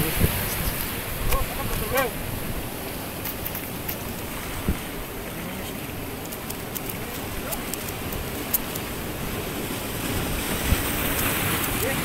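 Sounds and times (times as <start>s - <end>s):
surf washing against rocks: 0.0s - 12.0s
wind buffeting microphone: 0.0s - 12.0s.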